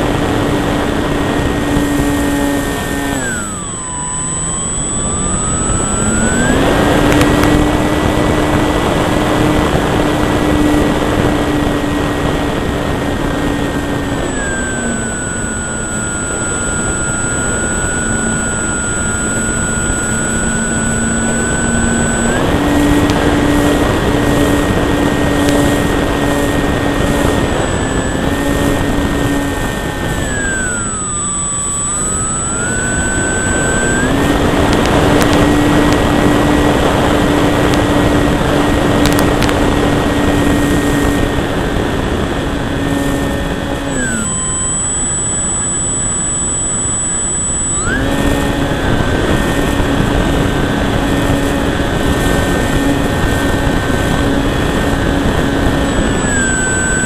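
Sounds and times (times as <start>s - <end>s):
electric motor and propeller whine: 0.0s - 57.0s.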